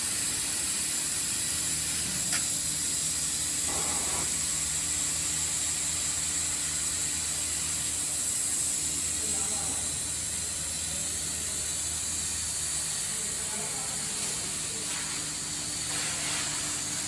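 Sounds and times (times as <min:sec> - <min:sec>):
laser cutter hiss: 0:00.0 - 0:17.0.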